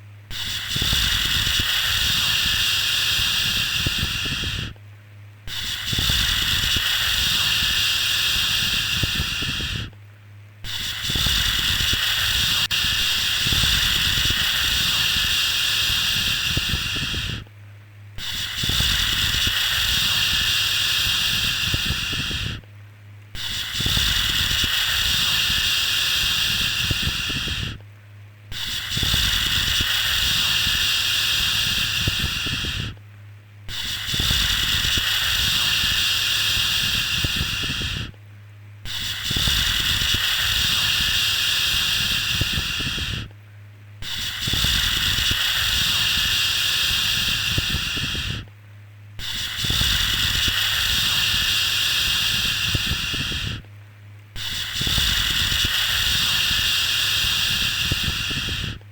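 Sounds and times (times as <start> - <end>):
low steady hum: 0.0 - 56.6.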